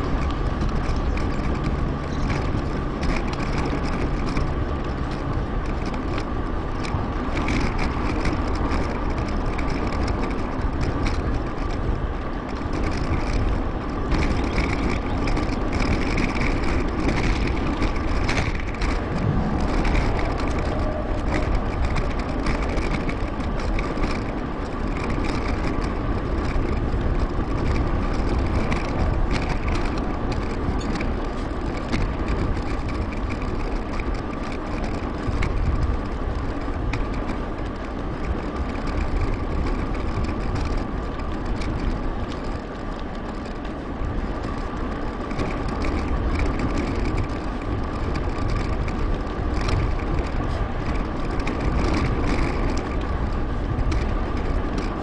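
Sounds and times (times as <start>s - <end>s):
bicycle tyre and road noise: 0.0s - 55.0s
wind rushing over microphone: 0.0s - 55.0s.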